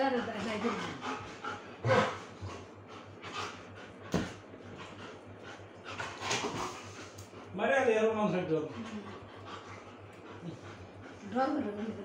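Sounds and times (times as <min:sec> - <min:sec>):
dog panting: 0:00.0 - 0:07.6, 0:08.2 - 0:12.0.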